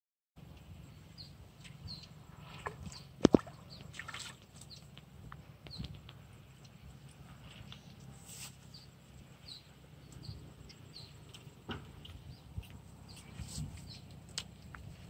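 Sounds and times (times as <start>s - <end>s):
birds chirping: 0.4s - 15.0s.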